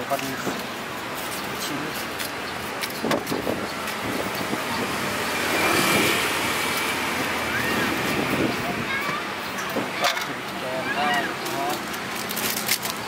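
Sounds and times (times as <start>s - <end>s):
motor vehicle passing: 1.1s - 13.0s.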